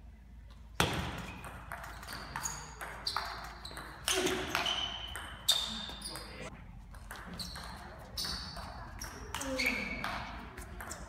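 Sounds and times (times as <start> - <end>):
table tennis ball hits: 0.8 - 11.0.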